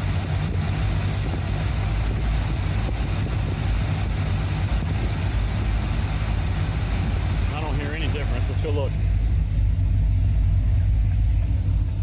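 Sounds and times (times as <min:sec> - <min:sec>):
car engine idling fast: 0:00.0 - 0:12.0.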